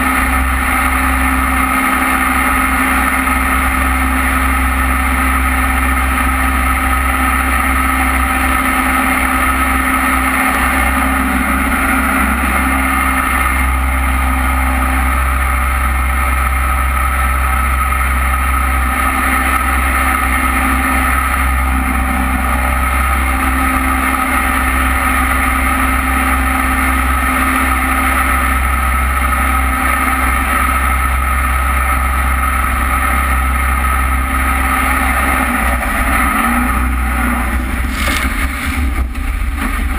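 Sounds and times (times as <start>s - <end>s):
jet boat engine droning: 0.0s - 39.9s.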